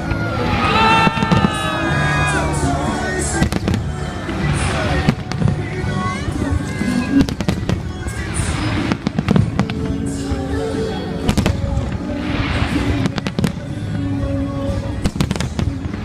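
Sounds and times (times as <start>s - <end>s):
fireworks crackling: 0.0s - 16.0s
music playing: 0.0s - 16.0s
fireworks bangs: 0.1s - 16.0s.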